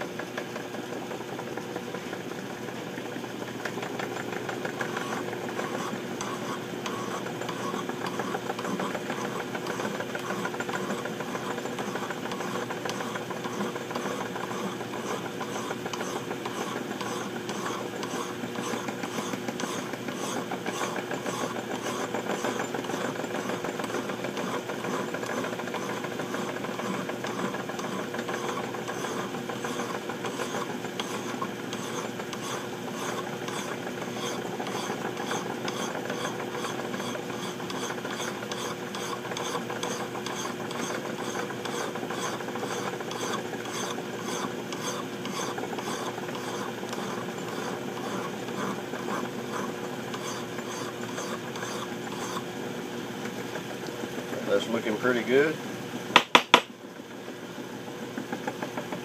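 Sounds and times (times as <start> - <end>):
lathe motor hum: 0.0 - 56.3
hand file rasping on metal: 4.9 - 52.5.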